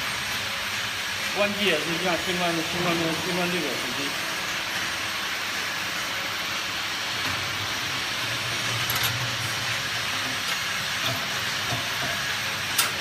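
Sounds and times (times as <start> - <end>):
washing machine hissing: 0.0 - 13.0.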